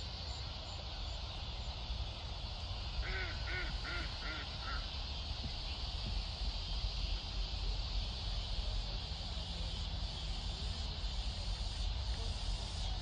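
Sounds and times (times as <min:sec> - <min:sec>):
insects chorus: 0:00.0 - 0:13.0
wind rumble on microphone: 0:00.0 - 0:13.0.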